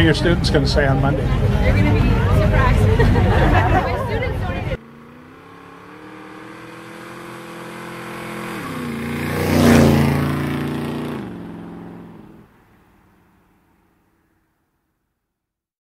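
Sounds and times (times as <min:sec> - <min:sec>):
vehicle engine passing by: 0:00.0 - 0:13.9.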